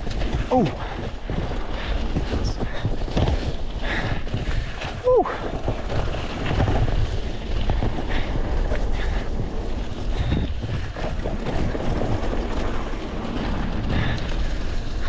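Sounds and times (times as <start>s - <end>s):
bike knocks and rattles: 0.0s - 15.0s
tyre rumble: 0.0s - 15.0s
wind buffeting microphone: 0.0s - 15.0s.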